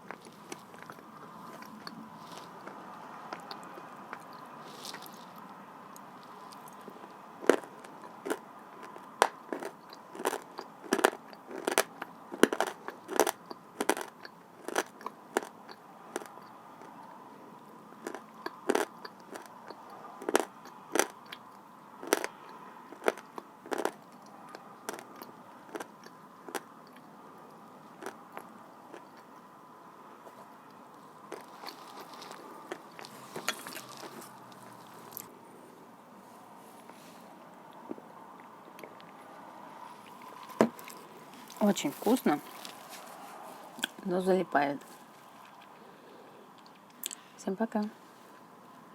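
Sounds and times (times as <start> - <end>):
chewing crunchy clay: 0.0 - 29.4, 30.3 - 35.4, 37.7 - 44.1, 44.8 - 45.9.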